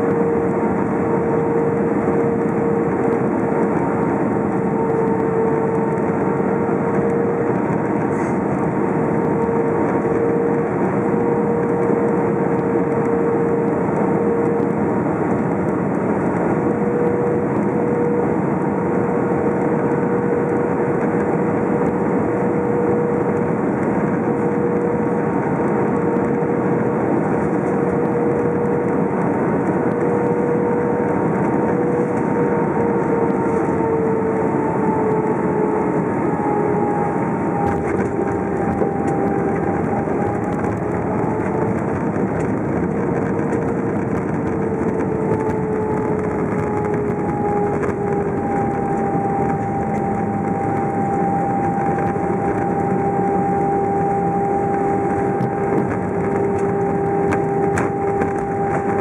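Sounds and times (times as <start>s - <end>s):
jet engine cabin rush and drone: 0.0s - 59.0s.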